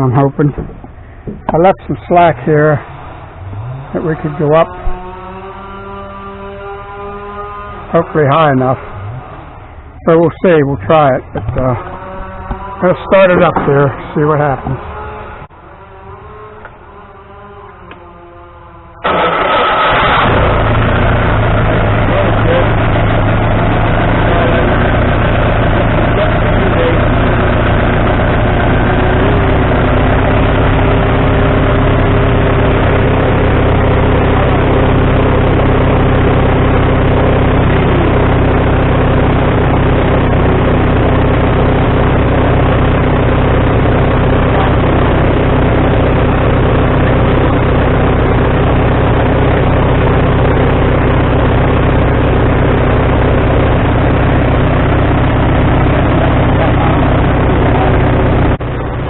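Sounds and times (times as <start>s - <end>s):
gasoline engine running: 0.0s - 59.0s.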